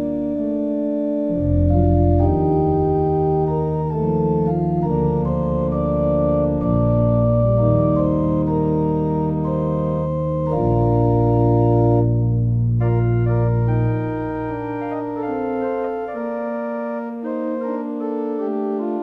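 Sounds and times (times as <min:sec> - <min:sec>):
organ playing slow chords: 0:00.0 - 0:19.0.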